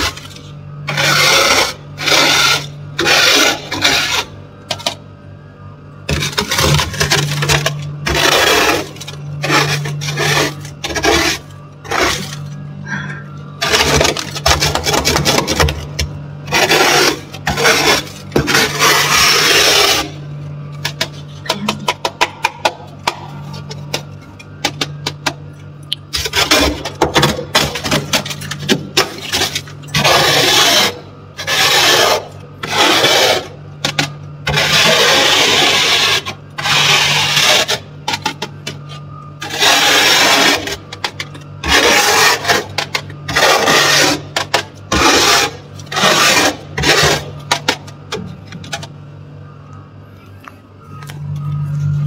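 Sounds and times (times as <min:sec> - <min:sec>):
spoon scraping frost: 0:00.0 - 0:05.0, 0:06.1 - 0:25.4, 0:26.0 - 0:48.8
steady low hum: 0:00.0 - 0:52.0.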